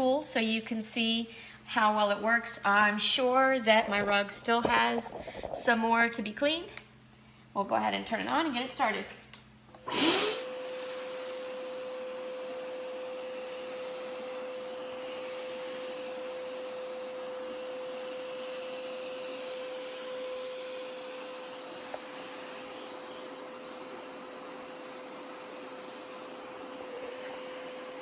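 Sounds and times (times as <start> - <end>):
carpet cleaner suction whine: 0.0 - 6.6, 9.7 - 28.0.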